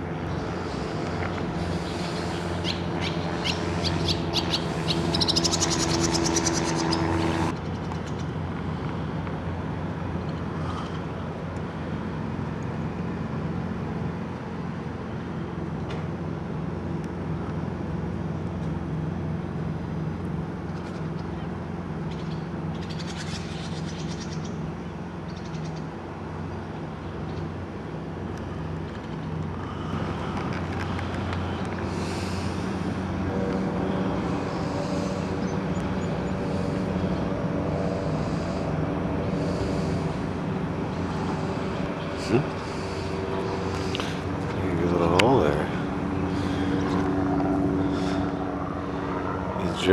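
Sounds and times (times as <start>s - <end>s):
low motor drone: 0.0s - 49.9s.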